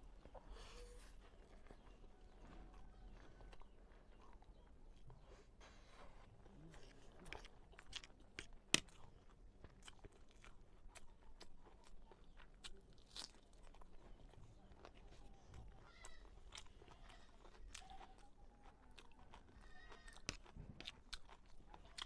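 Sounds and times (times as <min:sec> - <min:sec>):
close chewing and crunching: 0:00.0 - 0:22.0.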